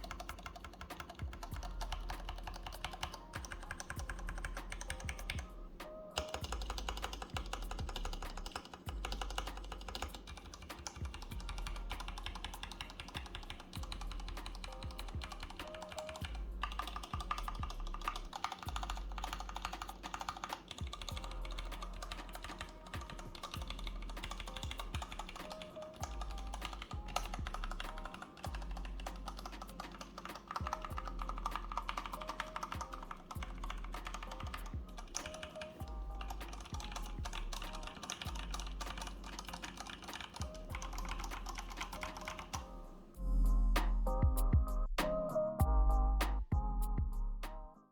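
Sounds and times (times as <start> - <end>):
hip-hop beat with bass: 0.0 - 47.9.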